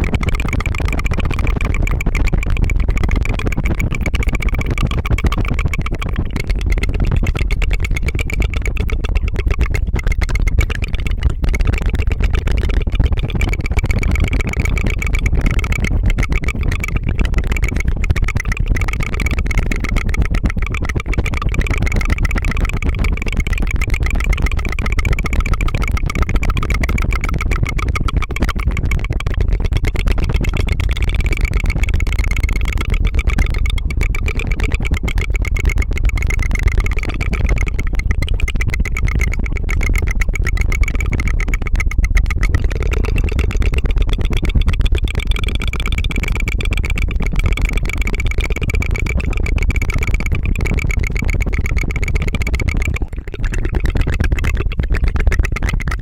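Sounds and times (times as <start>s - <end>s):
rolled-tongue trill: 0.0s - 56.0s.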